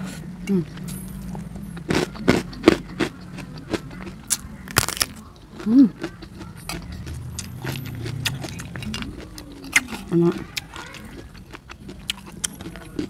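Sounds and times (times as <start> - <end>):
steady low hum: 0.0 - 10.6
chewing crunchy food: 0.0 - 13.0.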